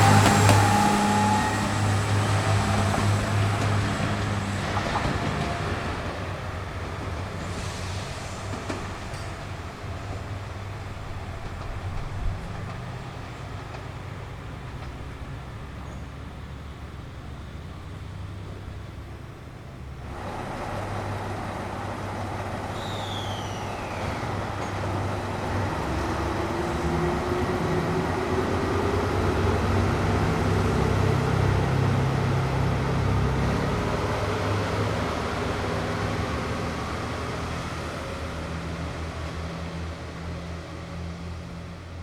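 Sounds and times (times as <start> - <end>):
diesel railcar engine drone: 0.0 - 42.0.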